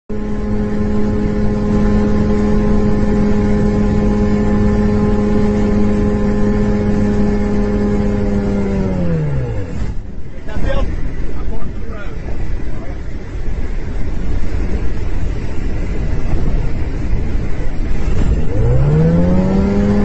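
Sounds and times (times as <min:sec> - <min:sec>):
light aircraft engine running: 0:00.1 - 0:20.0.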